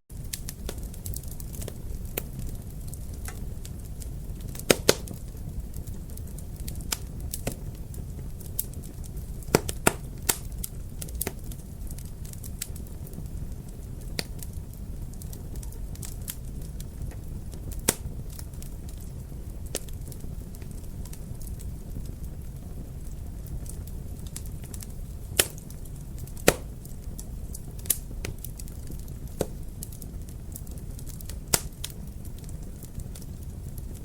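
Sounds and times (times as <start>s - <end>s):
fire pops and crackles: 0.1s - 34.0s
low rumble of flames: 0.1s - 34.0s.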